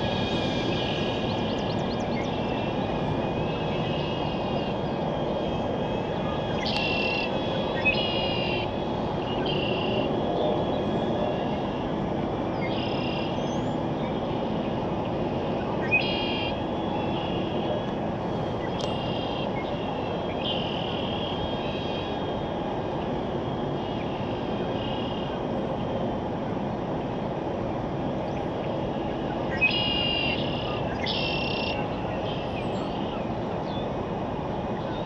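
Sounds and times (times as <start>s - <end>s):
rushing background noise: 0.0s - 35.0s.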